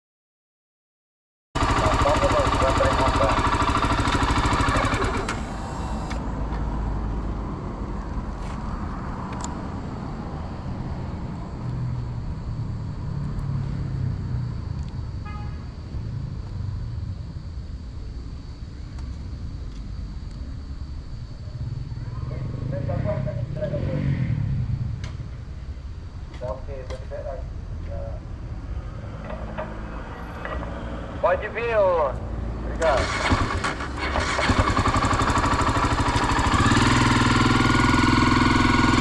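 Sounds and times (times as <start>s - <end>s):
vehicle engine rumble: 1.6s - 39.0s.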